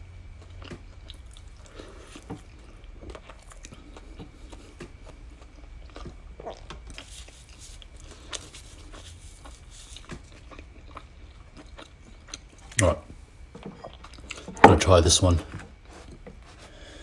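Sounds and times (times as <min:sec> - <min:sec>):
chewing soft bread: 0:00.0 - 0:14.6, 0:15.5 - 0:17.0.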